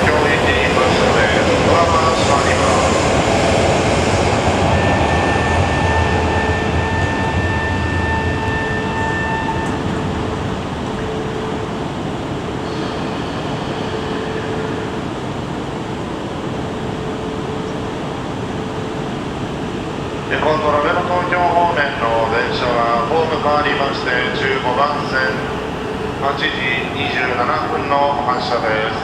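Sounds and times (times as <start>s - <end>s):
train rushing past: 0.0s - 29.0s.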